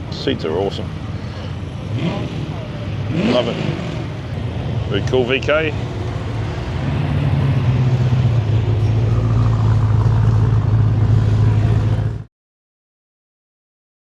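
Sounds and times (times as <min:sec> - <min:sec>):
car engine running: 0:00.0 - 0:12.3.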